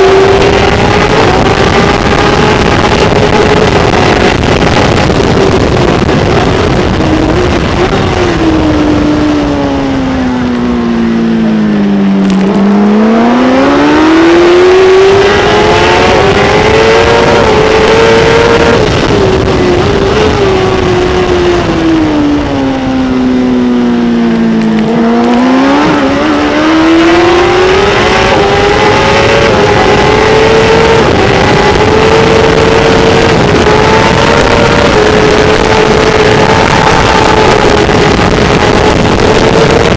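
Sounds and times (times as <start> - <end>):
motorcycle engine at high revs: 0.0 - 39.9
wind rushing: 0.0 - 39.9.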